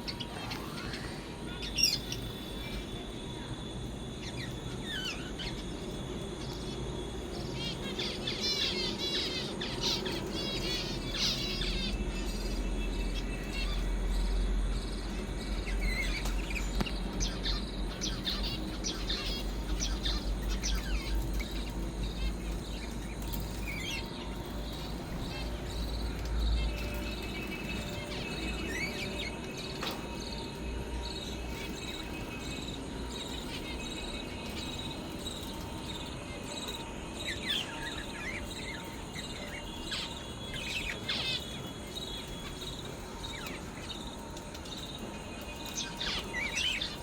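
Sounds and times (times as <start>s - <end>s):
finches chirping: 0.0s - 47.0s
steady low hum: 0.0s - 47.0s.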